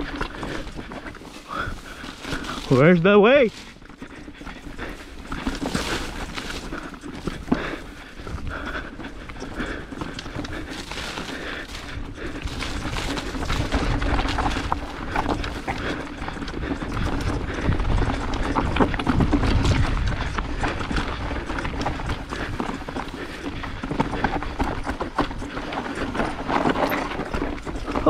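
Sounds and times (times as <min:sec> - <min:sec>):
bike chain and frame clatter: 0:00.0 - 0:28.0
bike tyres rolling on dirt: 0:00.0 - 0:28.0.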